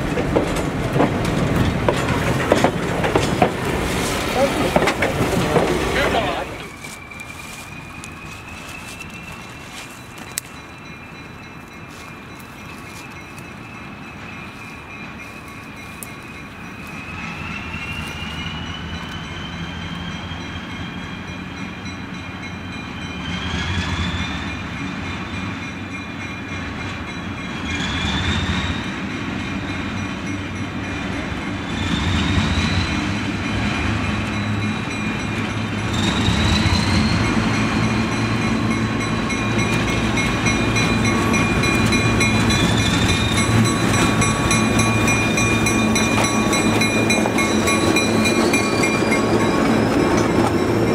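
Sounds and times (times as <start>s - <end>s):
diesel locomotives approaching: 0.0s - 50.9s.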